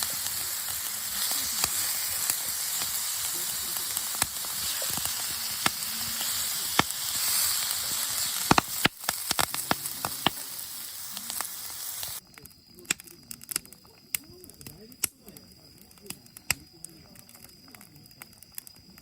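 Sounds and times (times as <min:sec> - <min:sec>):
campfire crackling and hissing: 0:00.0 - 0:19.0.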